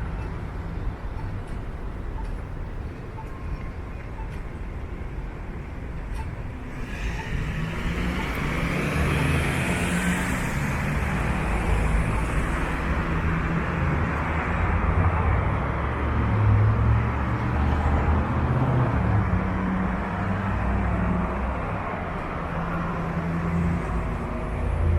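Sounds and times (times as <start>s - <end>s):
vehicle engine rumble: 0.0s - 24.9s.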